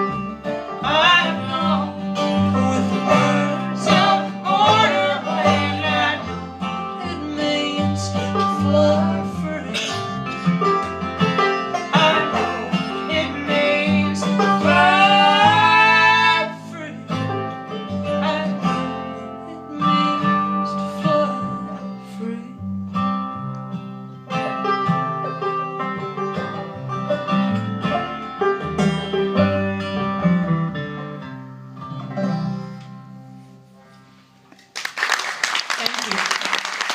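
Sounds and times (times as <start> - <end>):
bass line: 0.0 - 33.3
plucked strings: 0.0 - 34.7.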